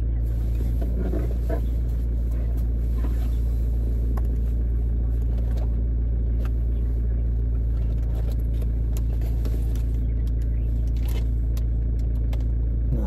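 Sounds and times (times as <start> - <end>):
car idling: 0.0 - 13.0
faint clicks and rustles: 0.3 - 12.6.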